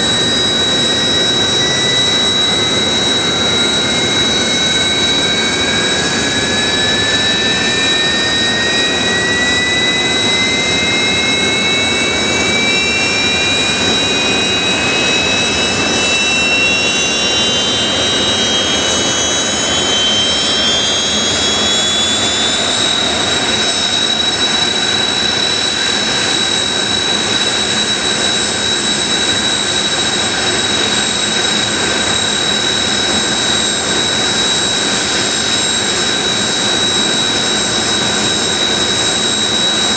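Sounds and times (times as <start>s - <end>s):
idling jet engine whine: 0.0s - 39.9s
jet engine spooling up: 0.0s - 39.9s
loud rush of jet engine: 0.0s - 39.9s.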